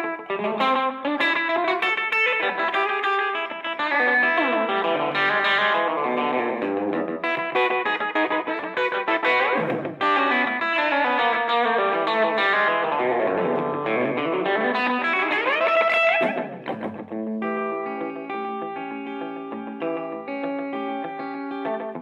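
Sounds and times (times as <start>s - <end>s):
electric guitar playing rockabilly lead: 0.0s - 22.0s.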